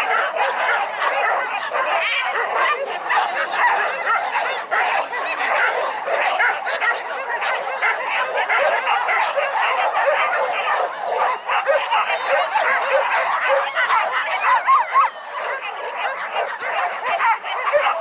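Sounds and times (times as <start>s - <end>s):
dogs yelping and barking: 0.0s - 18.0s.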